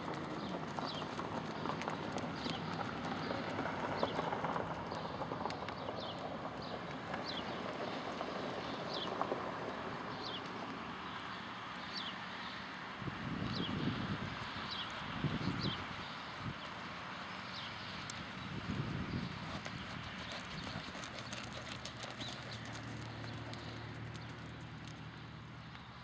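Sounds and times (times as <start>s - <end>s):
horse hooves clip-clopping: 0.0s - 26.0s.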